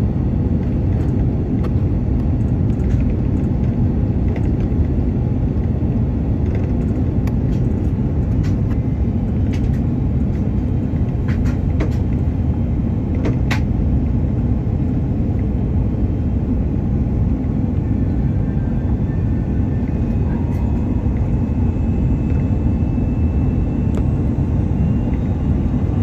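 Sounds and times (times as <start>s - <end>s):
airliner engines roaring in cabin: 0.0s - 26.0s.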